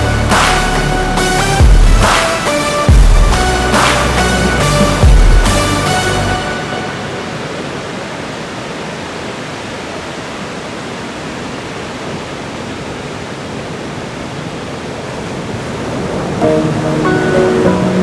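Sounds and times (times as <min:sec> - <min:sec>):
heavy ocean surf breaking: 0:00.0 - 0:18.0.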